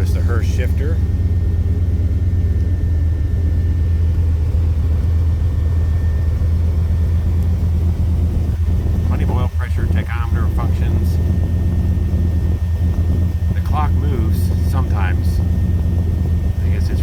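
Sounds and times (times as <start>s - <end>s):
engine idling low rumble: 0.0s - 17.0s.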